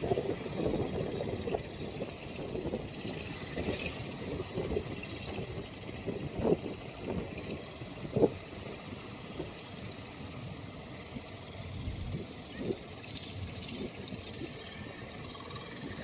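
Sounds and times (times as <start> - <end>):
engine running unevenly: 0.0 - 16.0.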